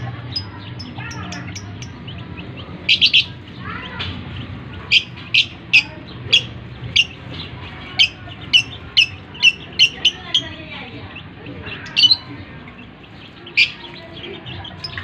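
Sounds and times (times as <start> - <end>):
bird high-pitched calls: 0.3 - 15.0.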